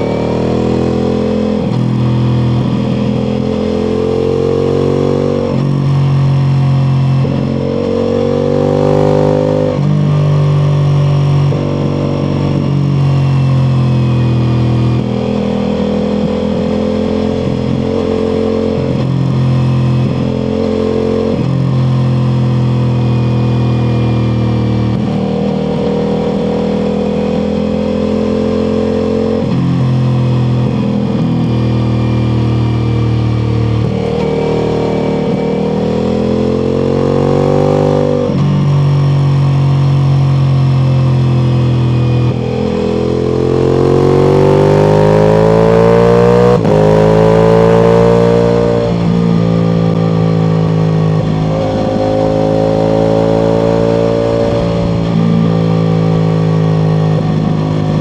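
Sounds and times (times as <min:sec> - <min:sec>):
motorcycle engine revving through gears: 0:00.0 - 0:58.0.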